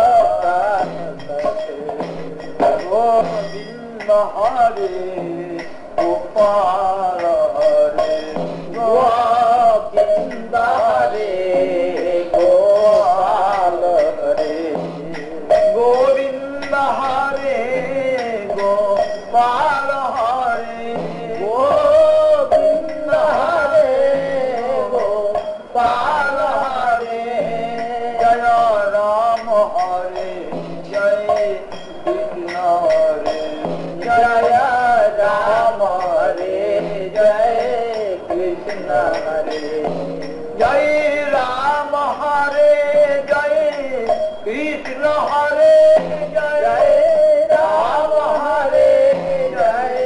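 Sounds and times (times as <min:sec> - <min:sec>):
held instrumental accompaniment: 0:00.0 - 0:50.0
man singing devotional melody: 0:00.0 - 0:50.0.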